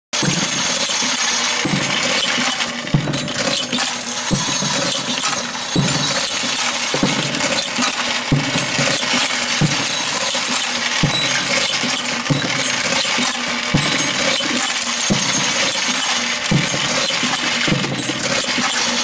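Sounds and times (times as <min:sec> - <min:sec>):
press tool heads knocking: 0:00.2 - 0:19.0.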